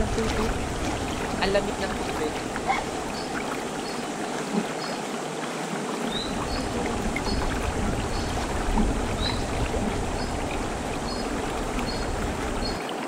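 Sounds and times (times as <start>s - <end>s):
low rumble: 0.0s - 4.0s, 6.3s - 12.8s
feet wading through shallow water: 0.0s - 13.0s
flowing stream: 0.0s - 13.0s.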